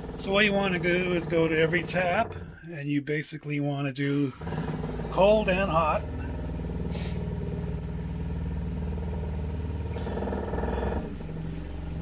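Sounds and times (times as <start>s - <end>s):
water pump pulsing hum: 0.0s - 2.8s, 4.0s - 12.0s.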